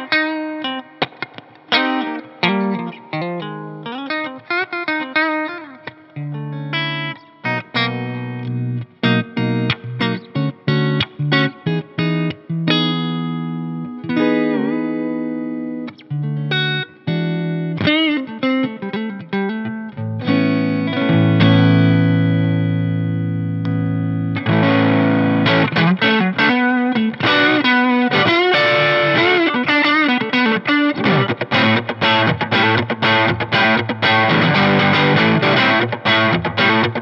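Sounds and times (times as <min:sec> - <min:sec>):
distorted electric guitar: 0:00.0 - 0:37.0.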